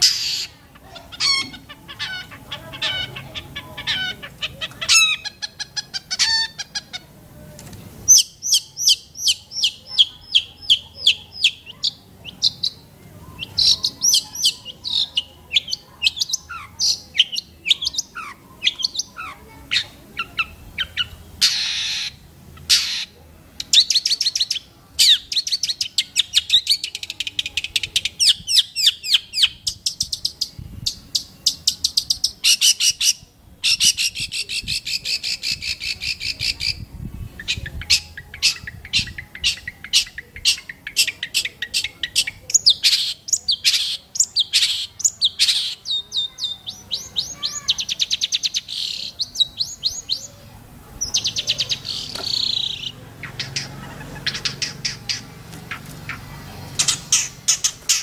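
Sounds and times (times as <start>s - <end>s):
bird singing sharp chirps and trills: 8.0s - 58.0s.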